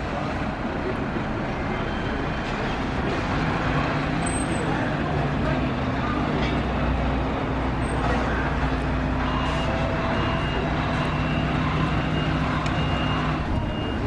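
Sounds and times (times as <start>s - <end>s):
city traffic: 0.0s - 14.0s
vehicle engine humming: 0.0s - 14.0s.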